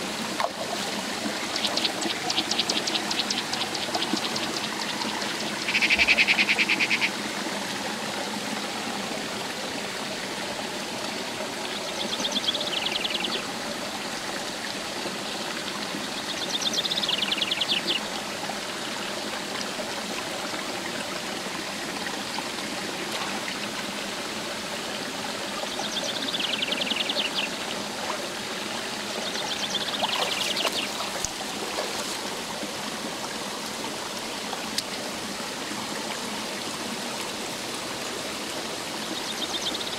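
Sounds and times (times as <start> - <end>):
rocky stream running: 0.0 - 39.9.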